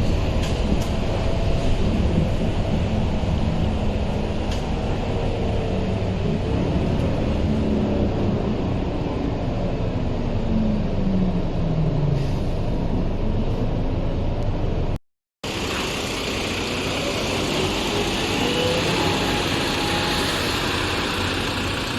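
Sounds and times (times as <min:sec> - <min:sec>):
bus engine droning: 0:00.0 - 0:21.9.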